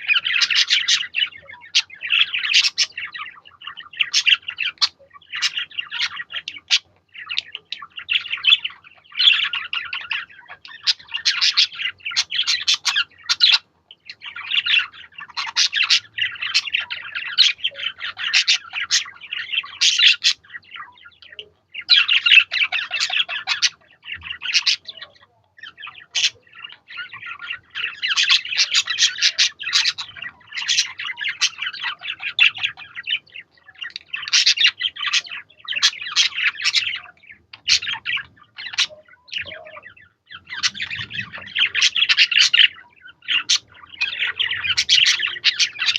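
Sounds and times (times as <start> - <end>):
budgerigars chirping and twittering: 0.0 - 45.9.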